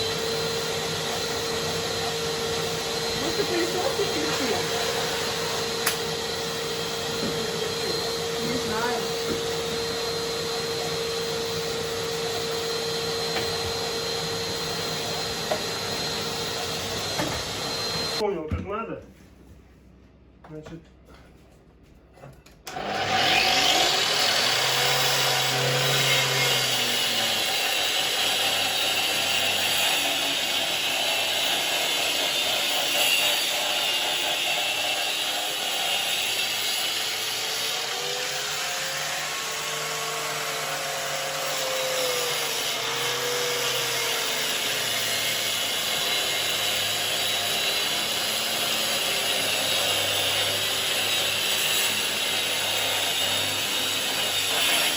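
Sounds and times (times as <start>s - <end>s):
electric power tool cutting wall: 0.0s - 18.2s, 22.7s - 54.9s.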